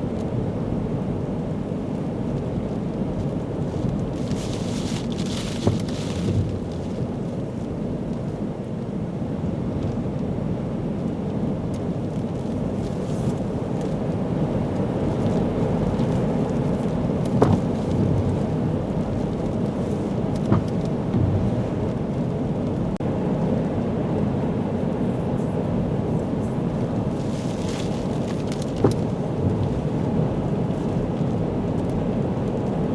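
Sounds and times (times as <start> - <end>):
strong wind: 1.7 - 32.9.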